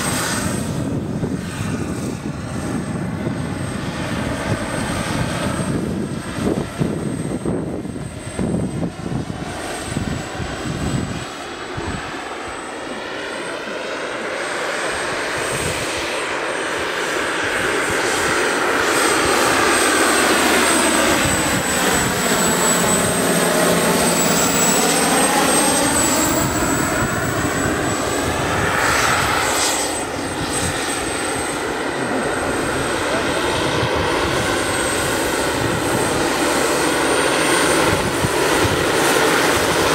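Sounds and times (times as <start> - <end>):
model helicopter rotor: 0.0 - 39.9
turbine high whine: 0.0 - 39.9.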